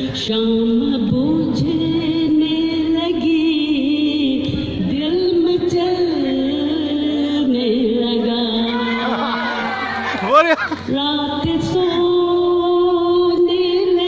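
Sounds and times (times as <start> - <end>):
woman singing through loudspeakers: 0.0 - 9.8, 10.8 - 14.0.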